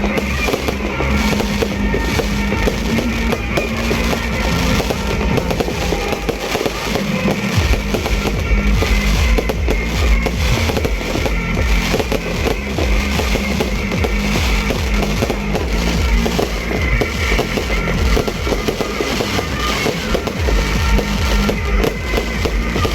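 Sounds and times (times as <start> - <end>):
fireworks bangs and crackles: 0.0 - 22.9
music playing: 0.0 - 22.9.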